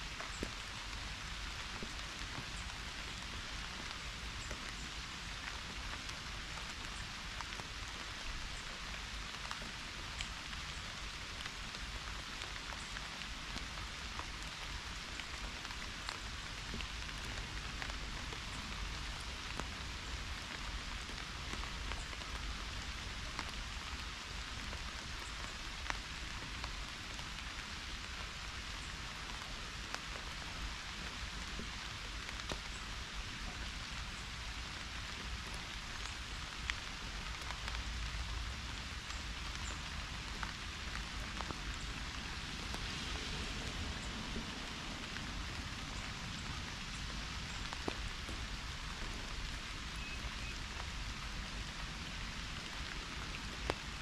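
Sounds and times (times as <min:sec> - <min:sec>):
pouring rain hiss: 0:00.0 - 0:54.0
ticks of single raindrops: 0:00.0 - 0:54.0.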